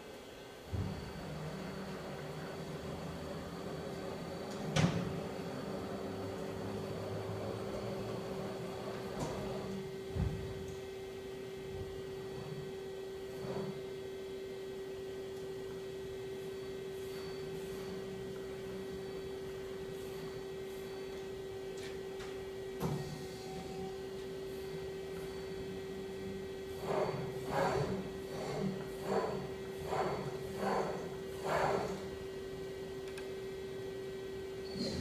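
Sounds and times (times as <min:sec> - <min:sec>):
lathe humming: 0:00.0 - 0:35.0.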